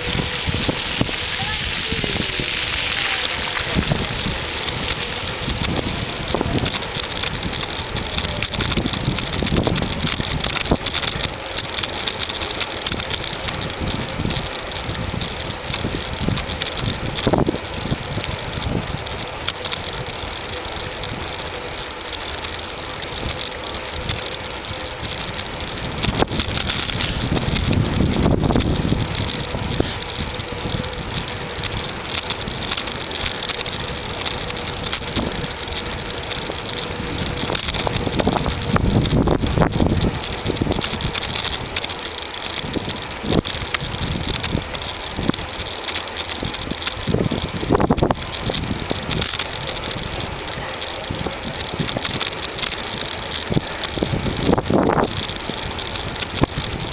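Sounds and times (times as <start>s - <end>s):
bicycle tyre noise: 0.0s - 56.9s.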